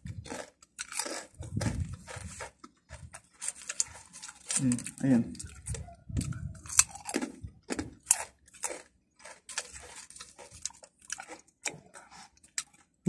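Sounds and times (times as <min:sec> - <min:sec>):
crunchy snack being chewed: 0:00.0 - 0:13.0.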